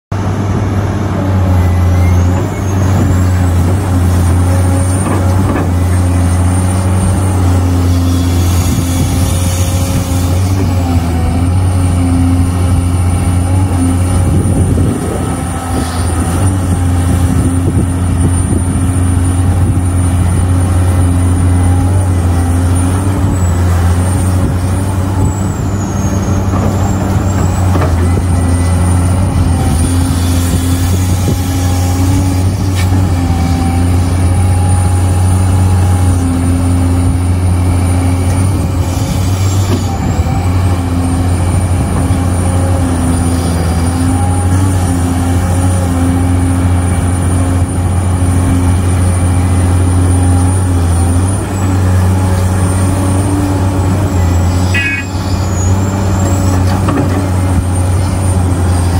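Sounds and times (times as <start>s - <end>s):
excavator diesel engine droning: 0.1s - 58.9s.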